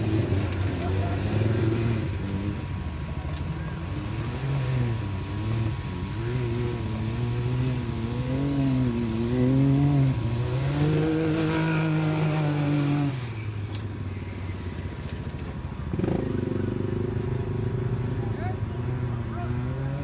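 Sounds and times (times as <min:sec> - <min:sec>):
utv engine revving: 0:00.0 - 0:20.0.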